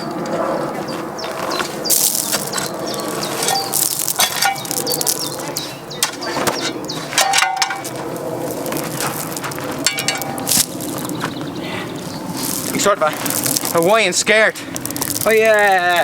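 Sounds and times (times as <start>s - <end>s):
trowel scraping gravelly soil: 0.3s - 16.0s.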